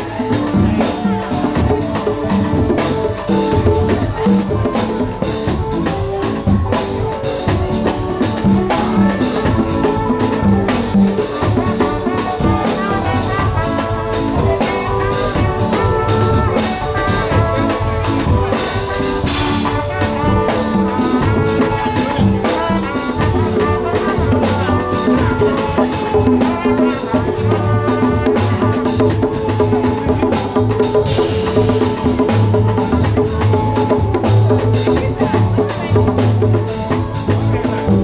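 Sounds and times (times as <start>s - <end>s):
band playing upbeat music: 0.0s - 38.0s.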